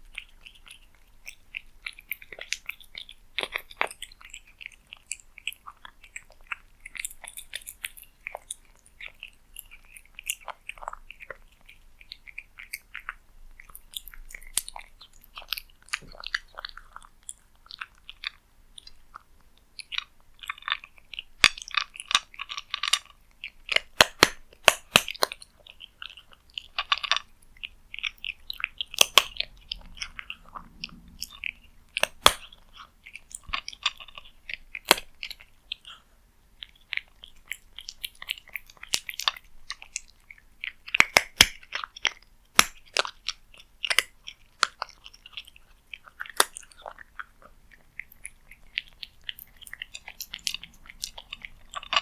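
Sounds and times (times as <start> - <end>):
cat chewing food: 0.0 - 52.0.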